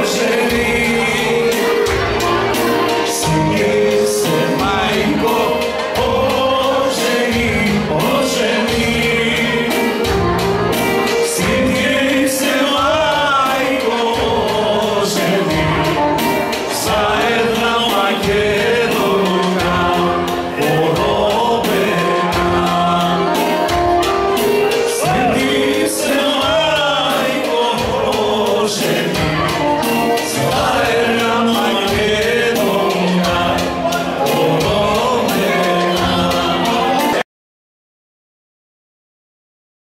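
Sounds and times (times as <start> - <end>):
amplified keyboard with steady beat: 0.0 - 37.2
man singing: 0.0 - 37.2.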